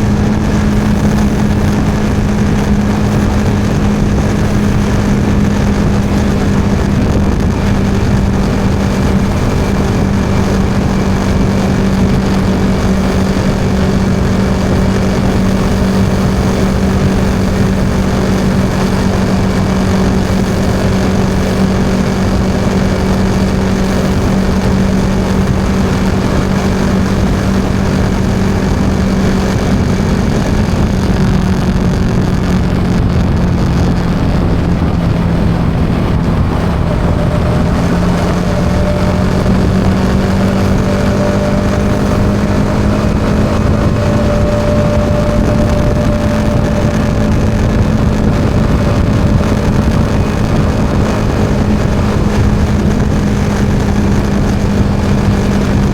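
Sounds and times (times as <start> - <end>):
motorcycle engine cruising: 0.0 - 55.9
tyre and wind noise: 0.0 - 55.9.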